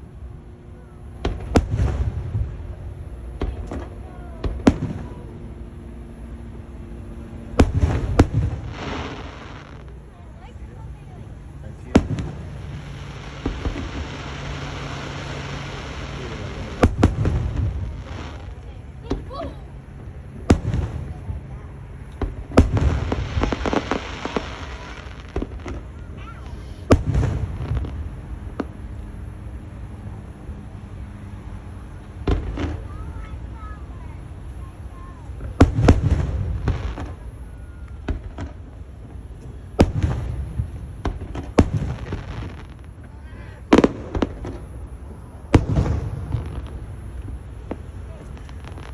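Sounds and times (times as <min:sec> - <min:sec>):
low rumbling echo: 0:00.0 - 0:48.9
firework bangs: 0:00.8 - 0:48.9
fireworks hissing crackle: 0:06.2 - 0:48.9.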